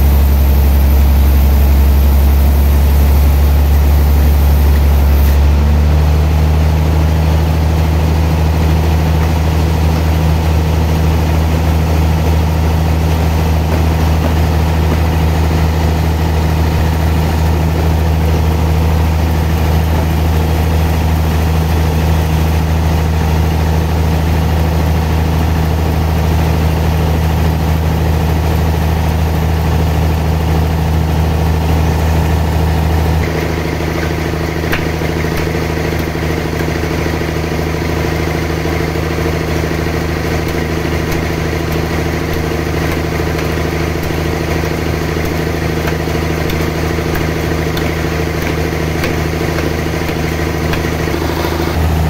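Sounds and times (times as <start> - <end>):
sawmill machinery drone: 0.0 - 52.0.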